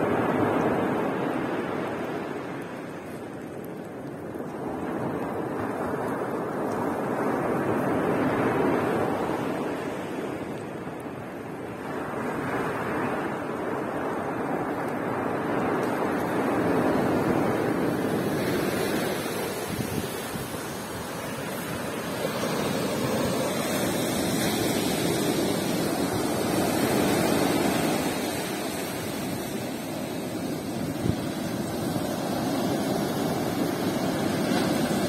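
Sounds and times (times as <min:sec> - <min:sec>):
surf washing up shingle beach: 0:00.0 - 0:35.0.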